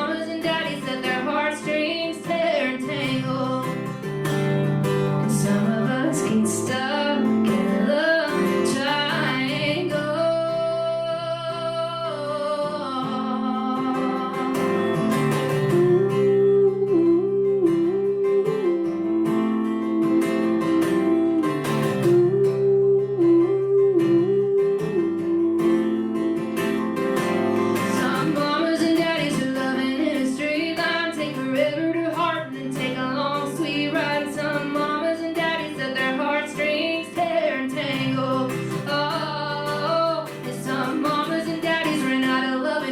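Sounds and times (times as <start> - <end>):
acoustic guitar: 0.0 - 42.9
woman singing: 0.0 - 42.9.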